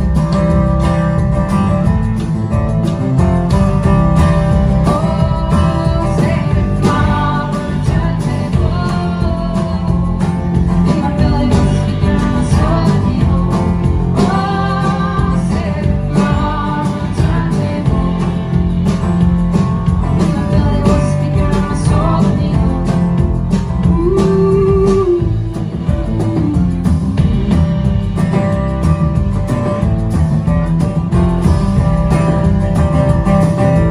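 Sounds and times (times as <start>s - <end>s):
drum kit: 0.0s - 33.9s
plucked double bass: 0.0s - 33.9s
strummed acoustic guitar: 0.0s - 33.9s.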